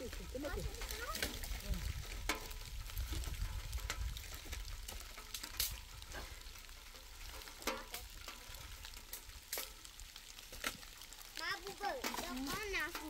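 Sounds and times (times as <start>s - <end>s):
faint crackling hiss: 0.0s - 13.0s
twigs snapping: 0.0s - 13.0s.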